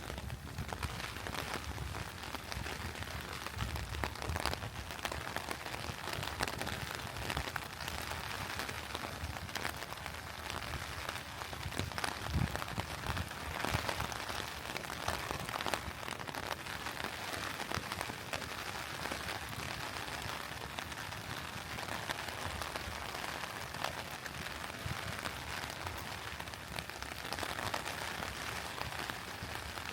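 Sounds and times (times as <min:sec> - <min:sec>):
rain pattering: 0:00.0 - 0:29.9.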